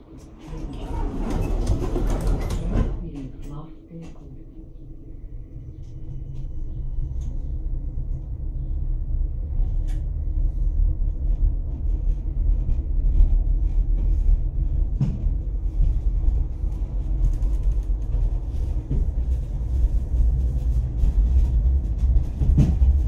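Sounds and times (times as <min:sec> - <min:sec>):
tram wheels rumbling: 0:00.0 - 0:23.0.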